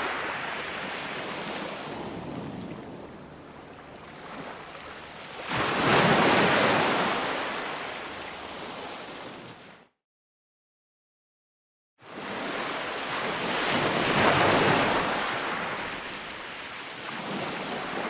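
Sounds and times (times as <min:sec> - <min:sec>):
ocean waves breaking on shore: 0:00.0 - 0:09.8, 0:12.0 - 0:18.0.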